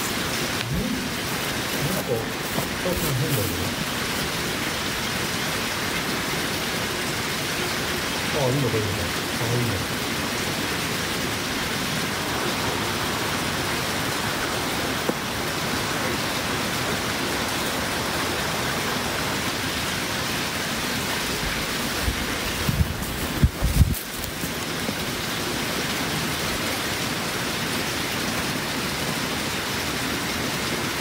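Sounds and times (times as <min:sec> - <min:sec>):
steady hiss: 0:00.0 - 0:26.7.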